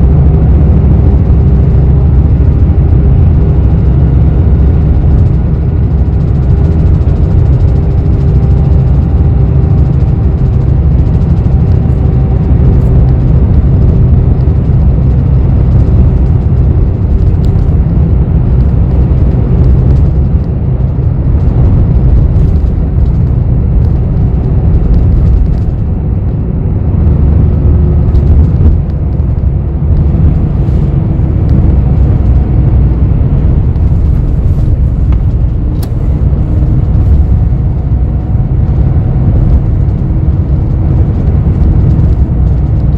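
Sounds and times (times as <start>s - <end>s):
bus engine rumble: 0.0s - 42.9s.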